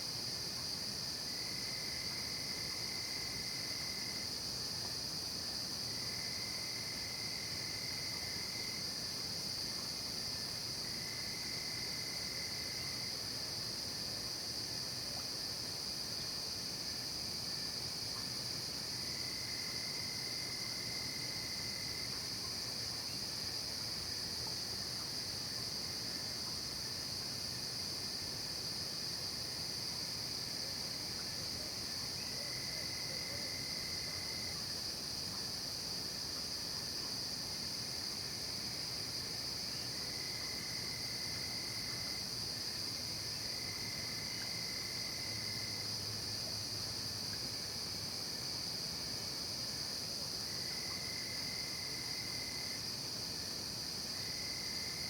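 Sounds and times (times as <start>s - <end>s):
crickets and insects chirring: 0.0s - 55.0s.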